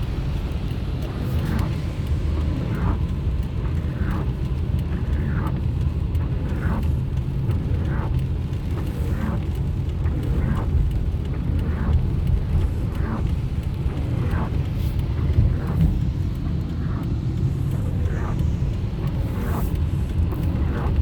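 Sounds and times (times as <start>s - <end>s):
car driving low rumble: 0.0s - 21.0s.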